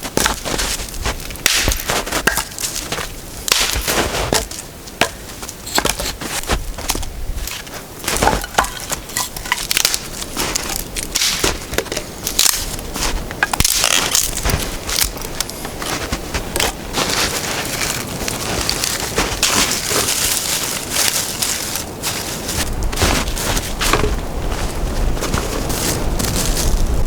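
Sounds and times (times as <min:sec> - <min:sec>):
twigs cracking and snapping: 0:00.0 - 0:27.0.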